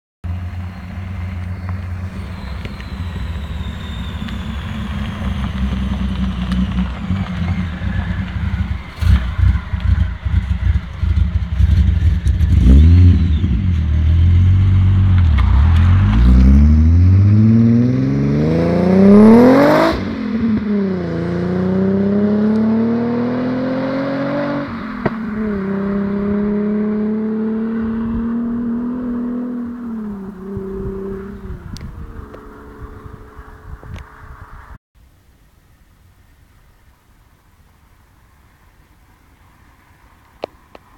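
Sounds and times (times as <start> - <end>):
car engine accelerating: 0.2 - 34.8.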